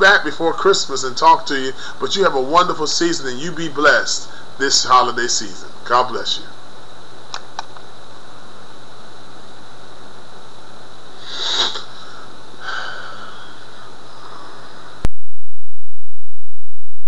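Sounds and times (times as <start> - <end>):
room hiss: 0.0 - 15.0
faint high whine: 0.0 - 15.1.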